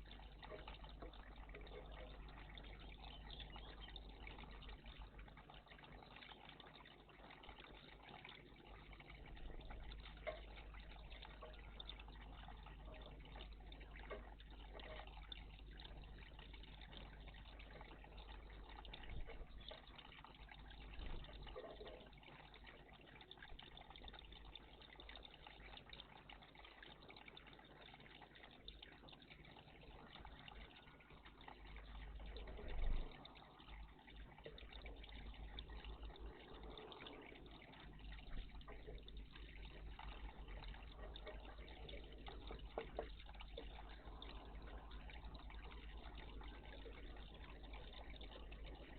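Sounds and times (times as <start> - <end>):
low steady hum: 0.0 - 48.9
water trickling: 0.0 - 48.9.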